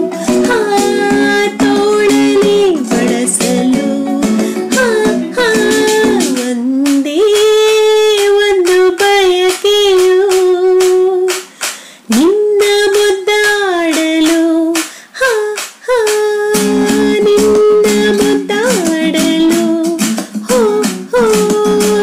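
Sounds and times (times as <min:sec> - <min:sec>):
clicking beat: 0:00.0 - 0:22.0
woman singing with vibrato: 0:00.0 - 0:22.0.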